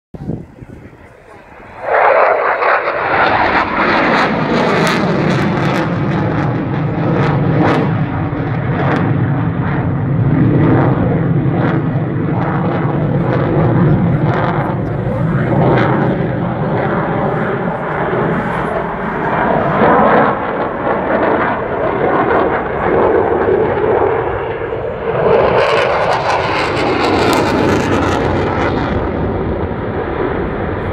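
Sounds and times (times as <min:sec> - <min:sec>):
fighter jet flying overhead: 0:00.2 - 0:30.9.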